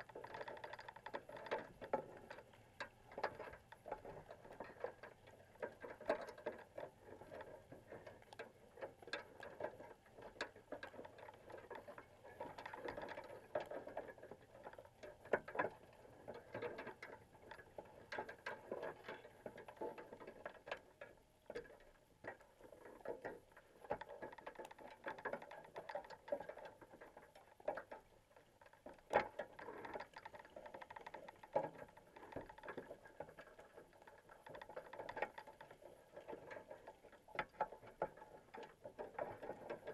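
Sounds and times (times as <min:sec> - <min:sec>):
crabs clicking on wire mesh: 0:00.0 - 0:39.9.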